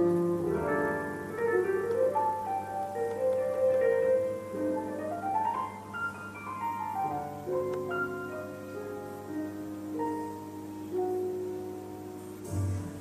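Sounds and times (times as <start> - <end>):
piano music over loudspeakers: 0.0 - 13.0.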